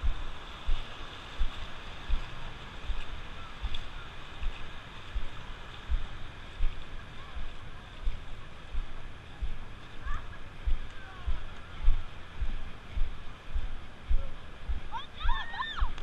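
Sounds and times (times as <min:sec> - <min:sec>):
footsteps on wet sand: 0:00.0 - 0:16.0.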